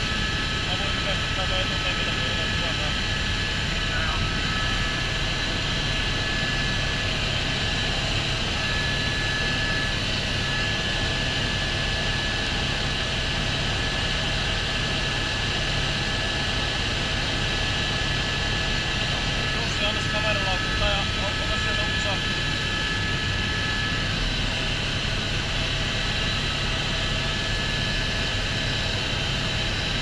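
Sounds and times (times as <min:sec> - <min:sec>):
constant high whine: 0:00.0 - 0:30.0
helicopter engine and rotor: 0:00.0 - 0:30.0.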